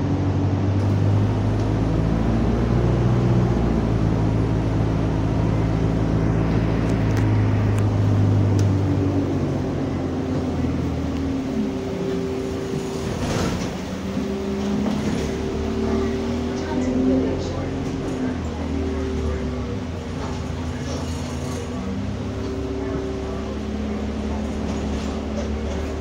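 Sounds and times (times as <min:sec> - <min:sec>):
bus engine hum: 0:00.0 - 0:26.0.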